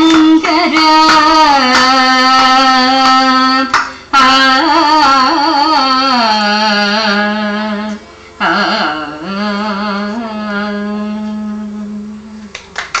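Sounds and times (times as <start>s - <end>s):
women singing held notes: 0.0s - 12.5s.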